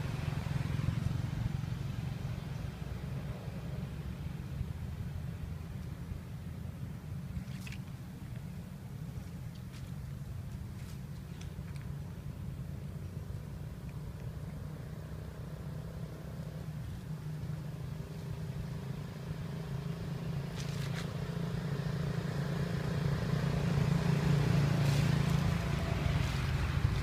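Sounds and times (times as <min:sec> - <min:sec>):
motor engine humming: 0:00.0 - 0:27.0.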